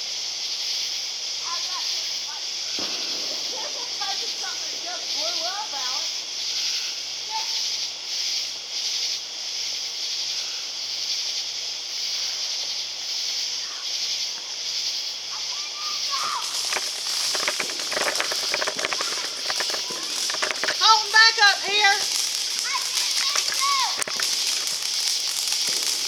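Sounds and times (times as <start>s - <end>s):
night insects chirping: 0.0s - 26.0s
firework crackling: 0.8s - 26.0s.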